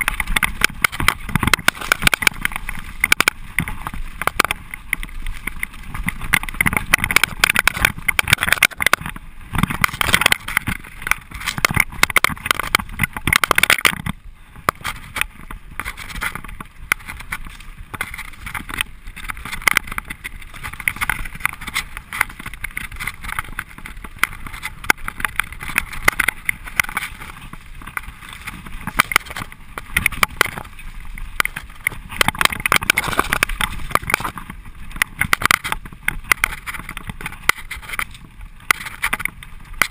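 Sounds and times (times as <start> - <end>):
bike rattling and knocking: 0.0 - 39.9
tyres crunching over stones: 0.0 - 39.9.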